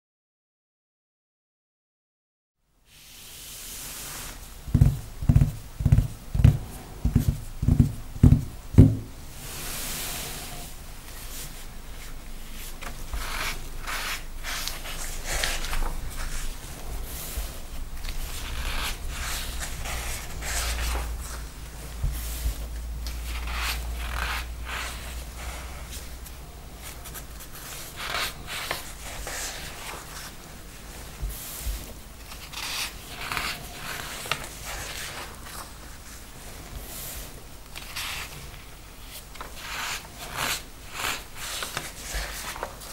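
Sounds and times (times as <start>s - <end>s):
paper rustling and sliding: 2.9s - 42.9s.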